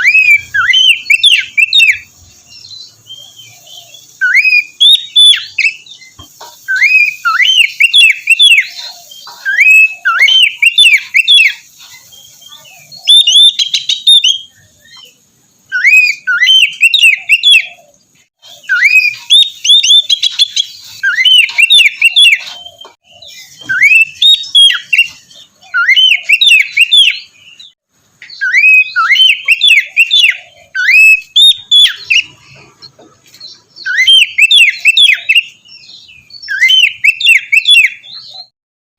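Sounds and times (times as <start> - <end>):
bird singing whistled notes: 0.0 - 32.6, 33.4 - 38.5.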